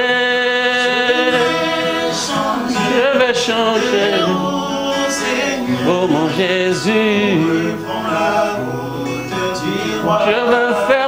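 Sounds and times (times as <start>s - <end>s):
acoustic guitar: 0.0s - 11.0s
man singing gospel song: 0.0s - 11.0s.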